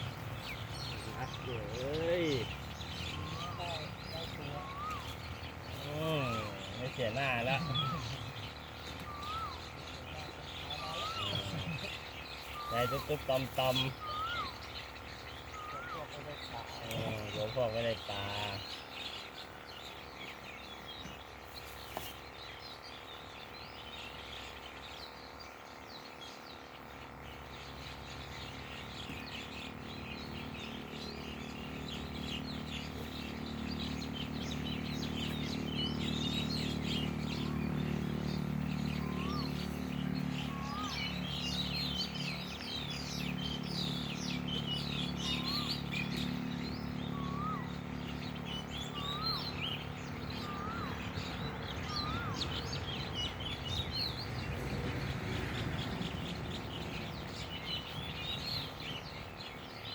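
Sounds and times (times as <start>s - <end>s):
birds chirping: 0.0s - 59.9s
whistled bird notes: 0.0s - 59.9s.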